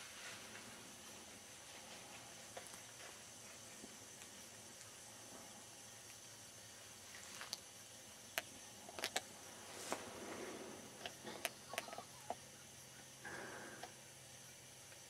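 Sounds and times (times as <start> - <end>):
faint steady hiss of woods: 0.0 - 15.0.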